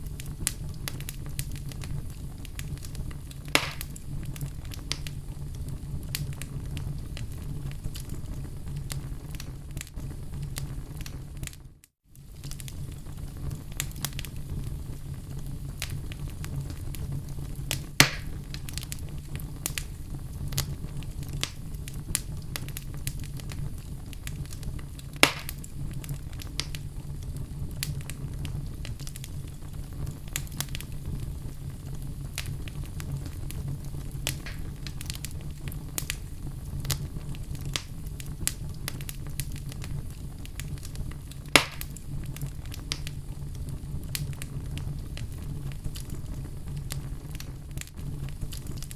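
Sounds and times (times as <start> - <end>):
fireplace fire crackling: 0.0 - 48.9
loud fire pops: 0.0 - 48.9
low fire rumble: 0.0 - 48.9.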